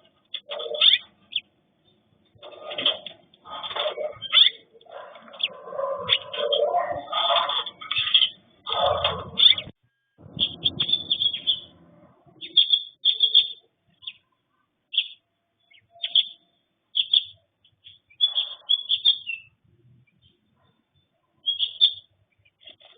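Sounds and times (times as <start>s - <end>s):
sparrows chirping: 0.0s - 22.9s.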